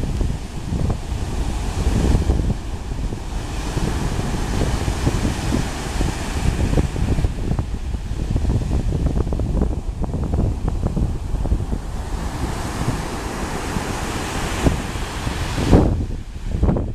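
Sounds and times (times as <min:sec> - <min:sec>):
ocean surf breaking on beach: 0:00.0 - 0:16.9
wind buffeting microphone: 0:00.0 - 0:16.9.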